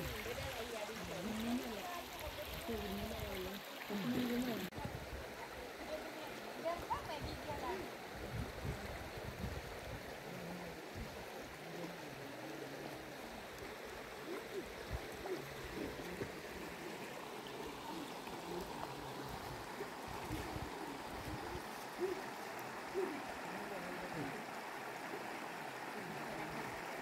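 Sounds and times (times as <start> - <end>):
stream rushing over stones: 0.0 - 27.0.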